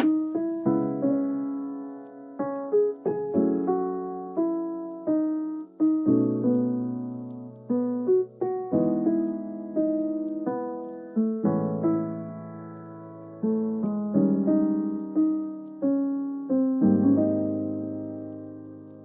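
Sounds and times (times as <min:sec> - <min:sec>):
gentle keyboard tune: 0:00.0 - 0:19.0.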